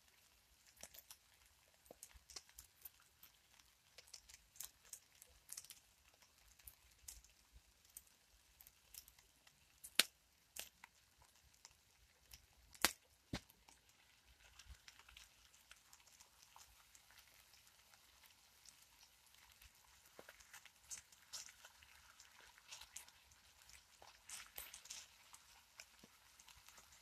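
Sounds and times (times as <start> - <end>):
faint sizzle of frying food: 0.0 - 27.0.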